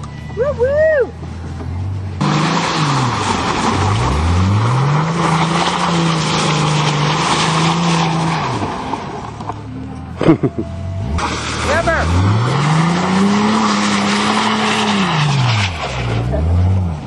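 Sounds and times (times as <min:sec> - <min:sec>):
tires spinning on dirt: 0:00.0 - 0:17.0
car engine revving: 0:01.2 - 0:17.0.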